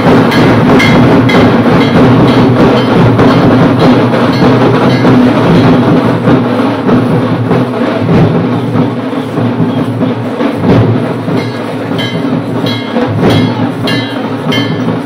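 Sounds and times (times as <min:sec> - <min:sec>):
live band playing loud music: 0:00.0 - 0:15.0
rapid drumbeats: 0:00.0 - 0:15.0.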